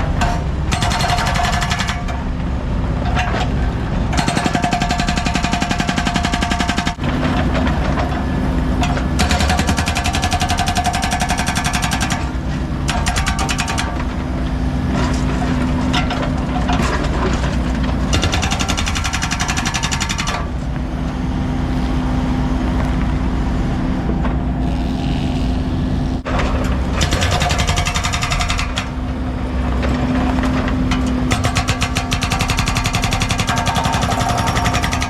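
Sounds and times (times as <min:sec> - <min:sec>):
heavy equipment engine running: 0:00.0 - 0:35.0.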